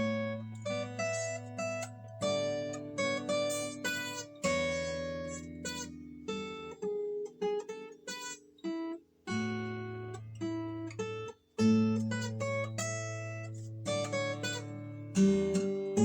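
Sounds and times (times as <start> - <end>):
acoustic guitar plucked and strummed: 0.0 - 16.0.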